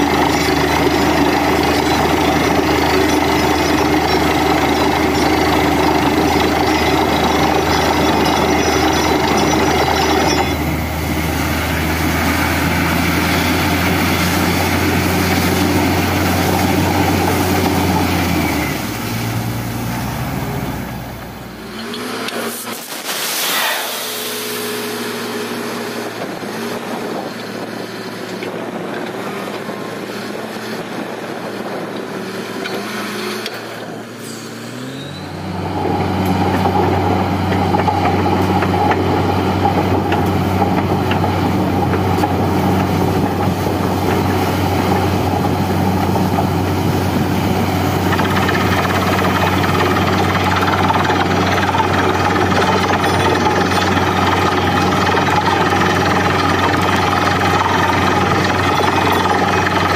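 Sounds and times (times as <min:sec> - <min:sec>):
drilling rig engine running: 0:00.0 - 0:59.9.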